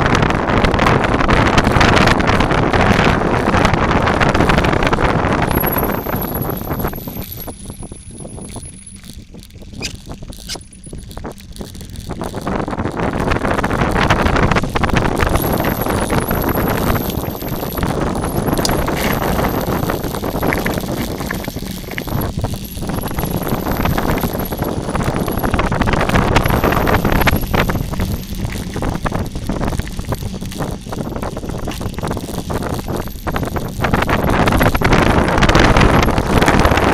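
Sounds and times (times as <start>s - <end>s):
wind on microphone: 0.0s - 36.9s.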